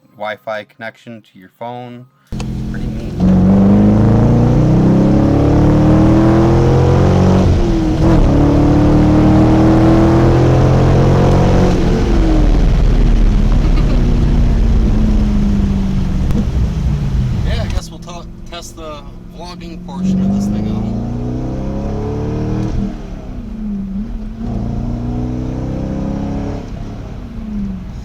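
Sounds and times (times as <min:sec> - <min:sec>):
car engine accelerating hard: 0:02.3 - 0:28.0.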